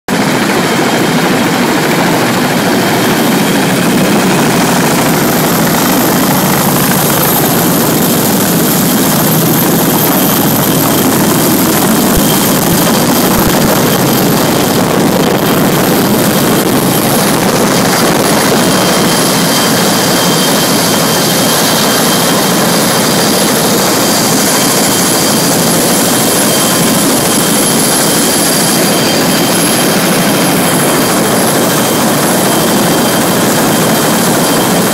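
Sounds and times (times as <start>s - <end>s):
helicopter engines and rotors: 0.1s - 34.9s.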